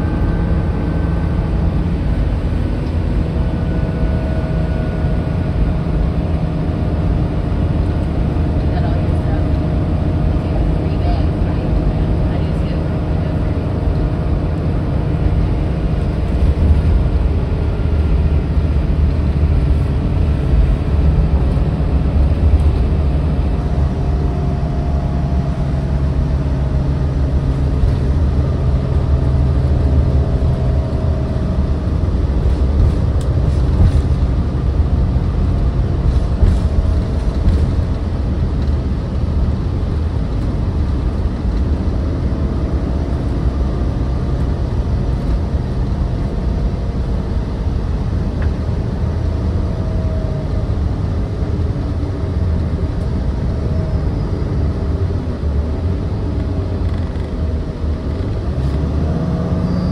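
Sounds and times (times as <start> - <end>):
bus engine rumble: 0.0 - 59.9
drivetrain whine: 0.0 - 59.9
road noise: 0.0 - 59.9.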